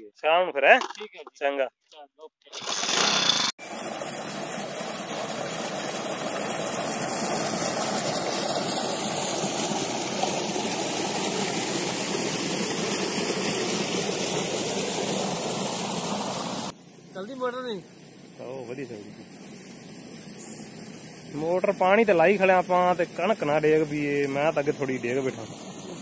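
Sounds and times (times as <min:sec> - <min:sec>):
water gushing from pipe: 0:02.6 - 0:16.8, 0:18.4 - 0:26.0.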